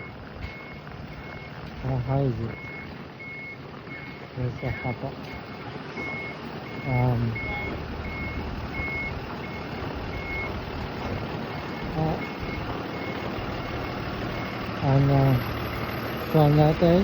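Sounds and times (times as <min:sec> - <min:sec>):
reversing alarm beeping: 0:00.0 - 0:17.0
street noise: 0:00.0 - 0:17.0
truck engine running: 0:00.0 - 0:17.0.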